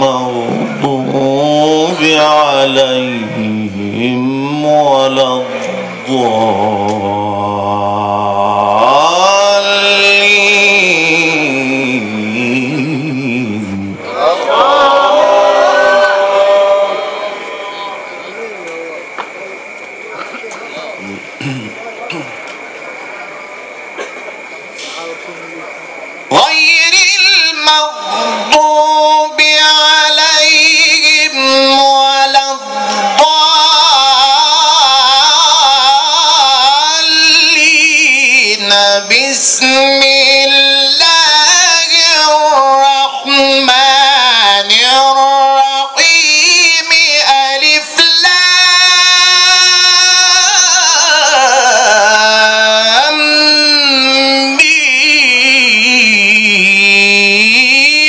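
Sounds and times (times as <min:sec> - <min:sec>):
man chanting through microphone: 0:00.0 - 0:22.4, 0:25.0 - 0:58.0.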